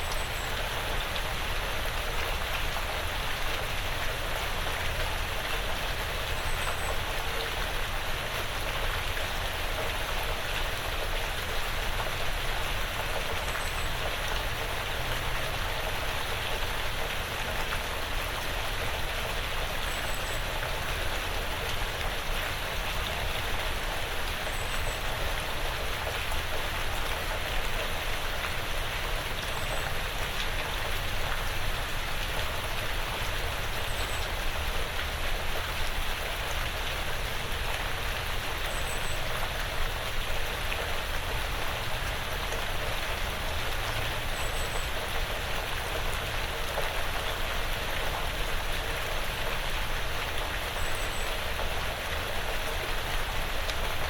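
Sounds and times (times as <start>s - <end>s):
rain pattering on a roof: 0.0s - 54.0s.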